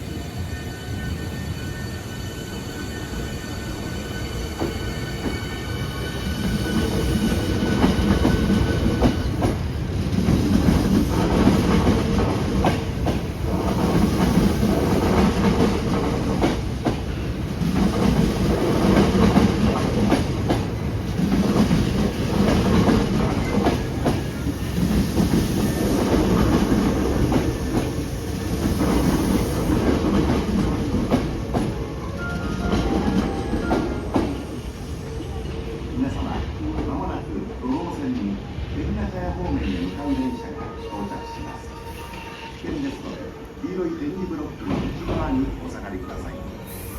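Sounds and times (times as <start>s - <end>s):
train wheels rumbling on rails: 1.0s - 40.0s, 44.3s - 46.2s.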